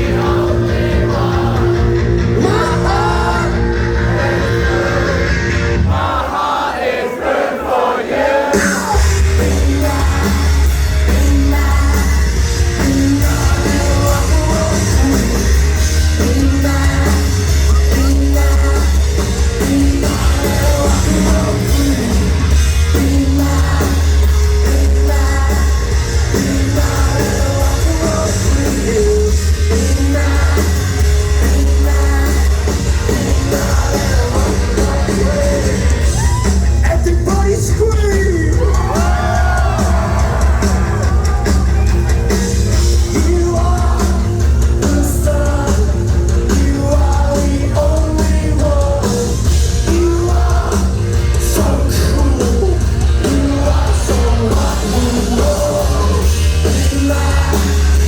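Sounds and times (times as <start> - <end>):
booming bass line: 0.0 - 5.9, 8.6 - 58.0
live rock band playing: 0.0 - 6.0, 8.5 - 58.0
person singing: 8.2 - 58.0.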